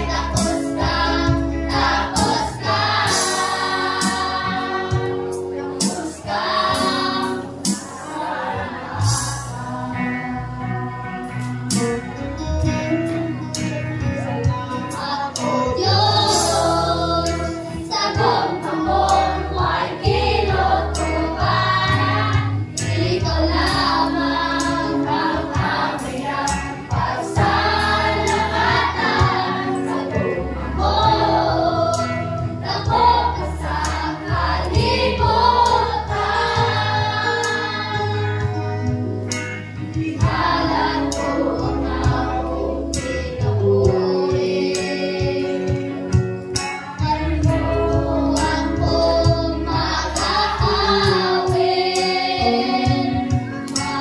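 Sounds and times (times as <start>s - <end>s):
group singing worship song: 0.0s - 11.9s, 14.4s - 54.0s
instrumental backing with bass: 0.0s - 54.0s.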